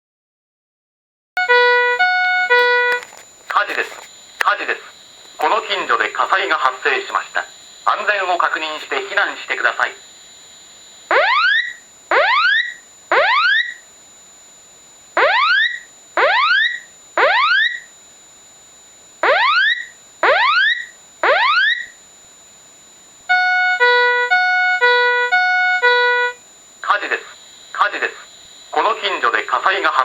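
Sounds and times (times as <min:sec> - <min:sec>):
alternating high-low alarm tone: 0:01.4 - 0:03.2, 0:03.8 - 0:18.2, 0:19.2 - 0:30.0
fire alarm rising sweeps: 0:01.4 - 0:03.2, 0:03.8 - 0:13.9, 0:15.1 - 0:18.0, 0:19.2 - 0:22.0, 0:23.2 - 0:30.0.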